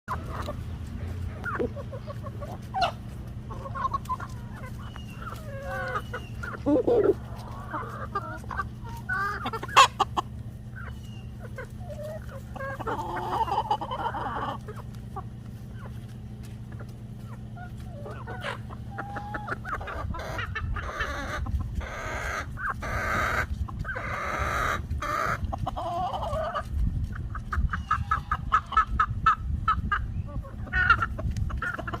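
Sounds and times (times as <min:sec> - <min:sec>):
chicken clucking: 0:00.1 - 0:32.0.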